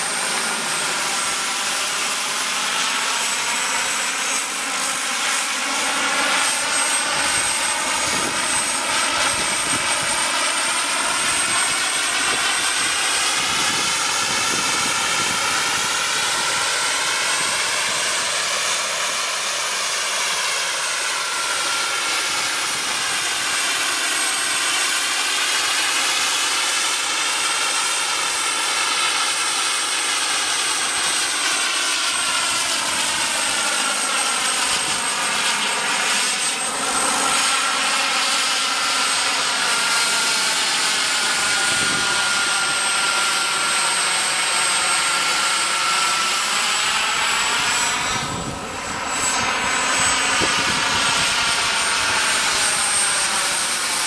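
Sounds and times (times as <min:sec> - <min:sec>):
helicopter rotor noise: 0:00.0 - 0:54.0
model helicopter turbine whine: 0:00.0 - 0:54.0.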